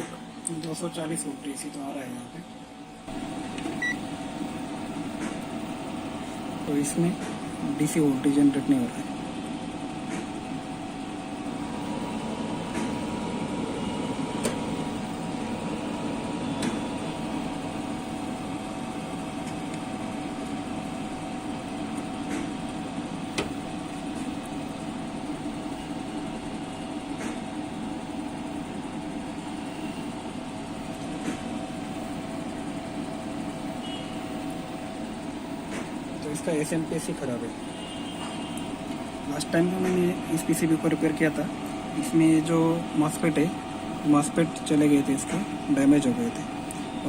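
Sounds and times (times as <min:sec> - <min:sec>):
steady mechanical hum: 0:00.0 - 0:47.0.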